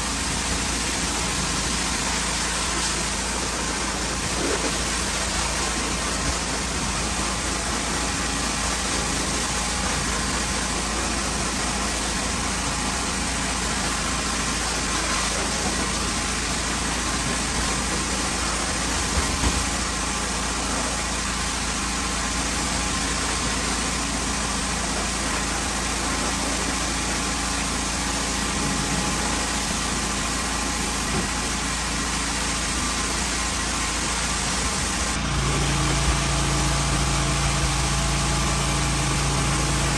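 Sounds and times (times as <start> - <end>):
high-pressure water spray hiss: 0.0 - 39.9
pressure washer engine drone: 0.0 - 39.9.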